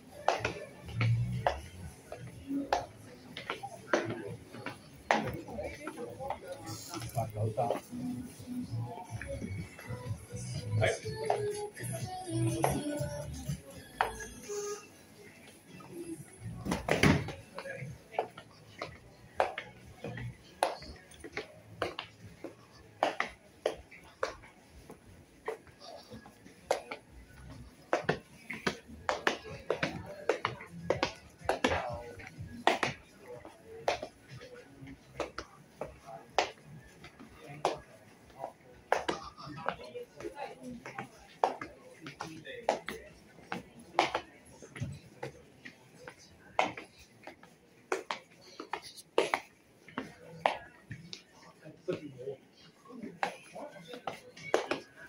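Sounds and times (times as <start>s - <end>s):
faint background voices: 0.0s - 55.0s.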